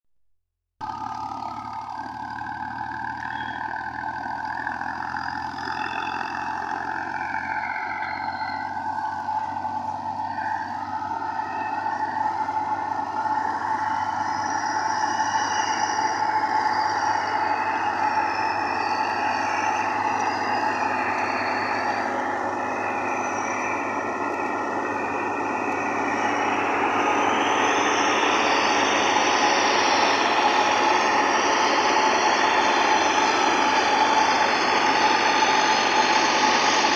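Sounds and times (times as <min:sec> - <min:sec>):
machine whine: 0:00.8 - 0:36.9
tractor engine running: 0:00.8 - 0:36.9.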